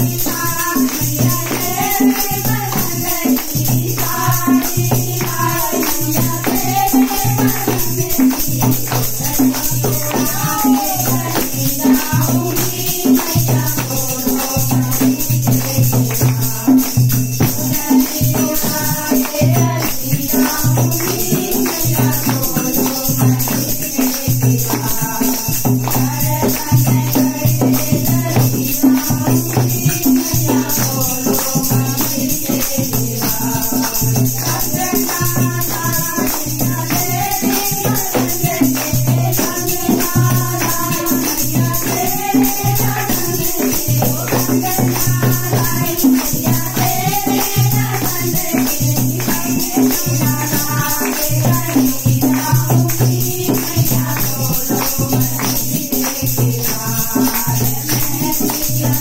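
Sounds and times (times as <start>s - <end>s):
people clapping in rhythm: 0.0s - 59.0s
rattling hand percussion: 0.0s - 59.0s
women singing devotional song: 0.0s - 59.0s.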